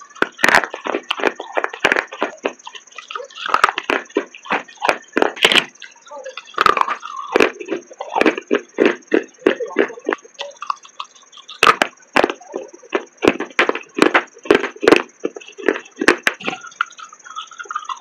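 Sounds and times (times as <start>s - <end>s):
clay crunching between teeth: 0.0s - 18.0s.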